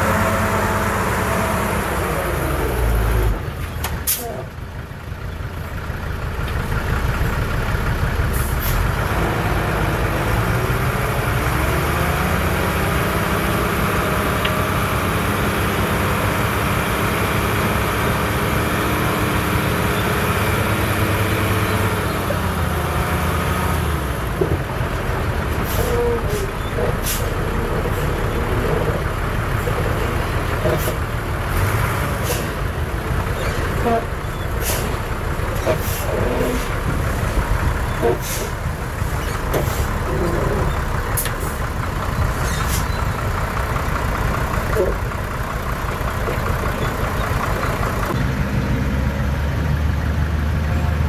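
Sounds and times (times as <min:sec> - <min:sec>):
heavy diesel engine revving: 0:00.0 - 0:04.8, 0:05.8 - 0:51.0.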